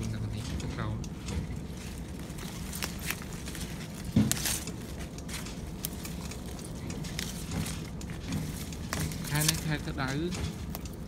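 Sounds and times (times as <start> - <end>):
leaves rustling: 1.5 - 11.0.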